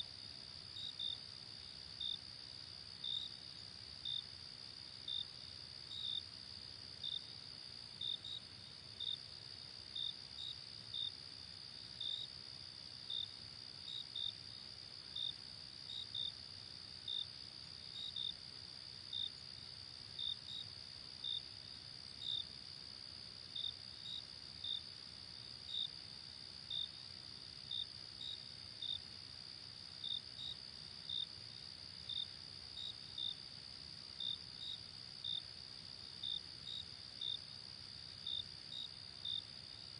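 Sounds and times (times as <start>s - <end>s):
cricket chirping: 0.0s - 39.9s
steady cricket trill: 0.0s - 39.9s.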